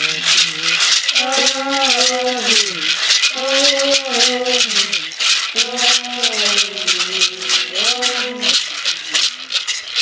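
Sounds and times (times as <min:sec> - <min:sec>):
person chanting: 0:00.0 - 0:09.4
gourd rattles shaken: 0:00.0 - 0:10.0.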